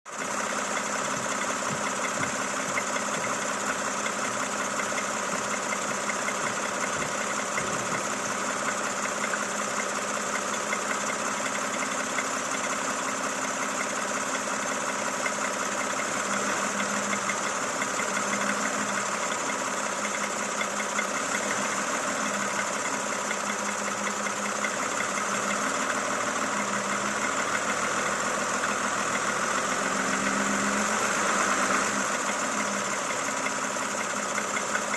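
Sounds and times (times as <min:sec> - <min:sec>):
engine ticking knock: 0:00.1 - 0:30.9, 0:31.7 - 0:34.9
car engine idling: 0:00.1 - 0:34.9.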